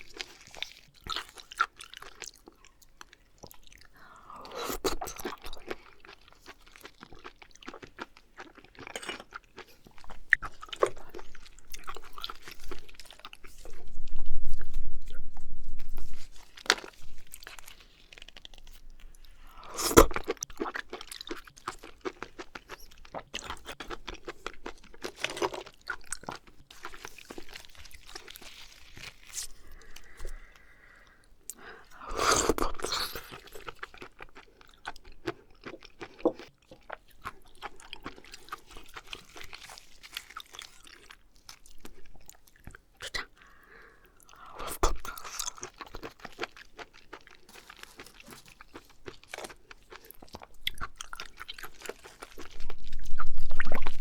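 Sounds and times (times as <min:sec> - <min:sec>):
wet chewing: 0:00.0 - 0:54.0.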